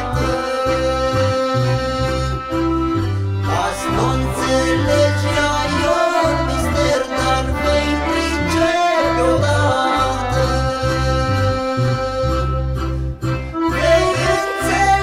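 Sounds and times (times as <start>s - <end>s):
man singing into microphone: 0.0s - 2.6s, 3.5s - 12.7s, 13.7s - 15.0s
keyboard chords and bass: 0.0s - 15.0s.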